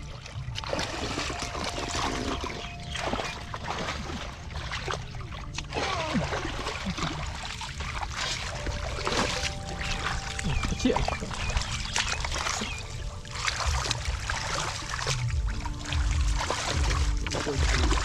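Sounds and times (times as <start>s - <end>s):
muddy water splashing: 0.0s - 18.0s
water trickling: 0.0s - 18.0s.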